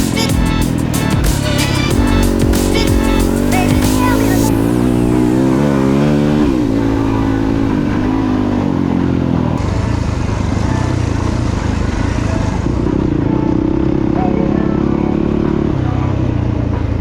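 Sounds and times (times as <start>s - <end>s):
dirt bike engine revving: 0.0s - 16.9s.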